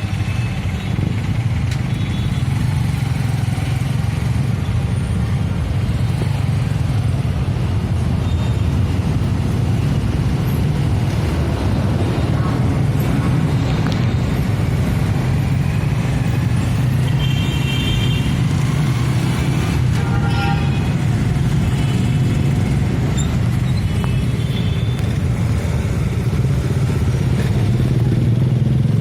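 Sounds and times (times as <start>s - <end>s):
street traffic: 0.0s - 29.0s.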